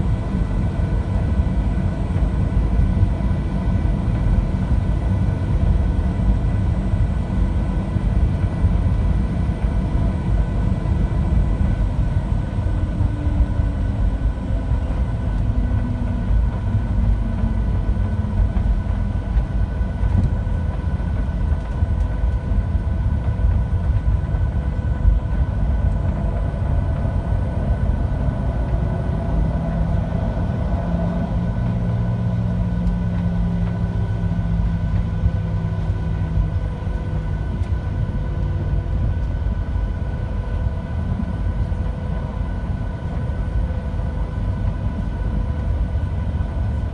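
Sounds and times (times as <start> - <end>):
jet engines low roar: 0.0 - 46.9.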